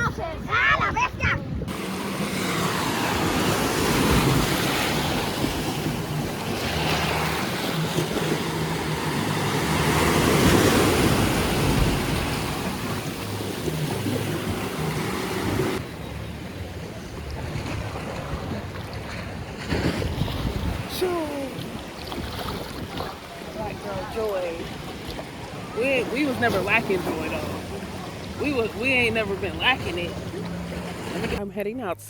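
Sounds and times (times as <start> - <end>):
wind on microphone: 0.0 - 15.8, 16.8 - 30.1
waves and moving water: 0.0 - 31.5.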